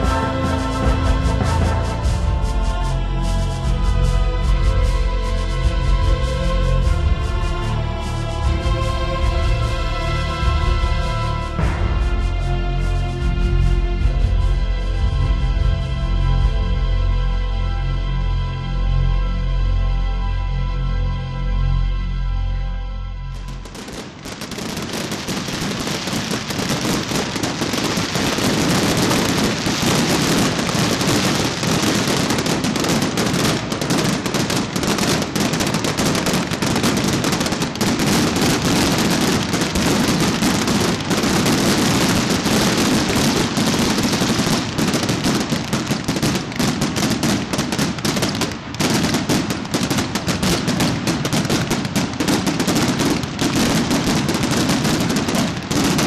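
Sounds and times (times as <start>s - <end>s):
fireworks crackling and popping: 0.0s - 16.6s, 23.3s - 56.0s.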